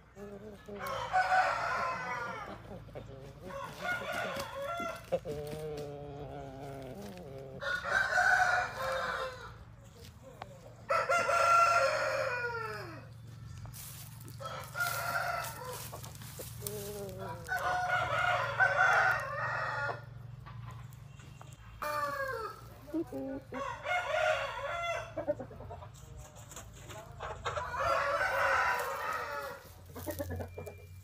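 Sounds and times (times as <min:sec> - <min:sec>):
roosters crowing: 0:00.0 - 0:09.8, 0:10.6 - 0:20.7, 0:21.7 - 0:25.6, 0:27.2 - 0:31.0.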